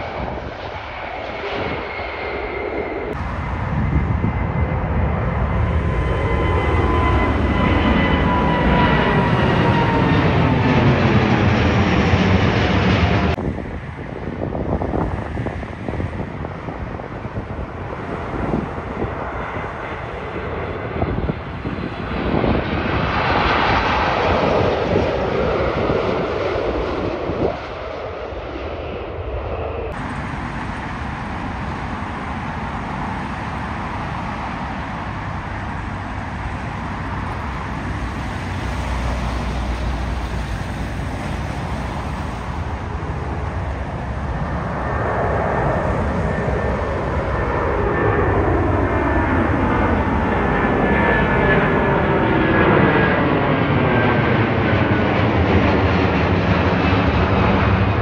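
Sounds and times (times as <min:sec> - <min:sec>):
jet airliner landing: 0:00.0 - 0:58.0.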